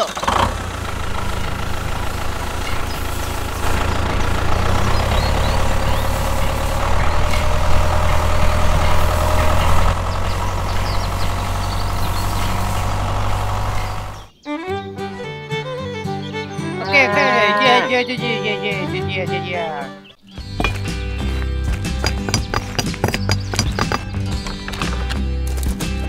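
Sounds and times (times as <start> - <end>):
tractor engine rumbling: 0.0 - 14.4, 15.2 - 26.0.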